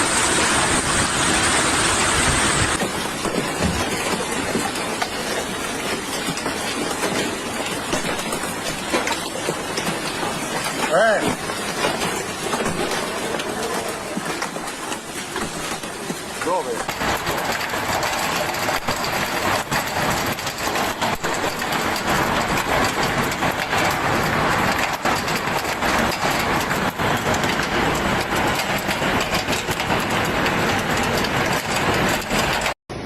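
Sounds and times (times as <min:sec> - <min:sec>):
hailstones pelting hard surfaces: 0:00.0 - 0:33.0.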